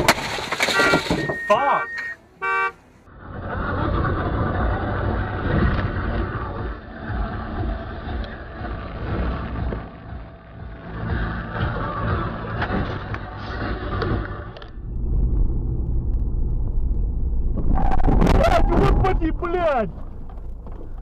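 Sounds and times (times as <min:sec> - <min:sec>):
car engine hum: 0:00.0 - 0:21.0
road noise rushing: 0:00.0 - 0:21.0.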